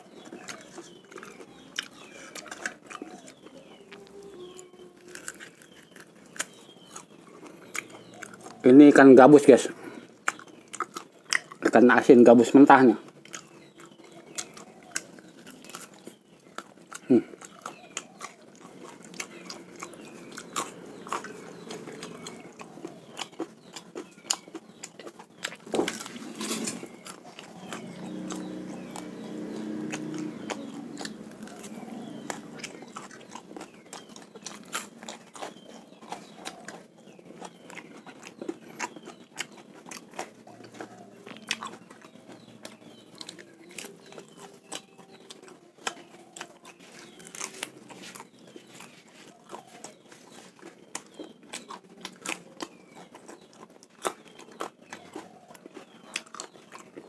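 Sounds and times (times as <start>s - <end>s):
person chewing wet mouth clicks: 0.0s - 8.6s, 10.1s - 11.8s, 13.0s - 26.2s, 26.9s - 57.0s.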